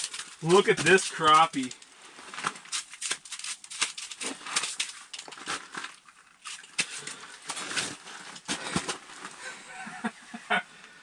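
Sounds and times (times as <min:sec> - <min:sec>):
handling noise clicks and rustles: 0:00.0 - 0:09.4.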